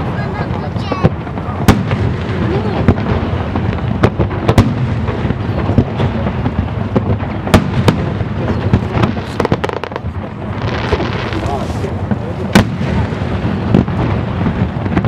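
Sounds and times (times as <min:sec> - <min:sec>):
firework shells bursting: 0:00.0 - 0:15.0.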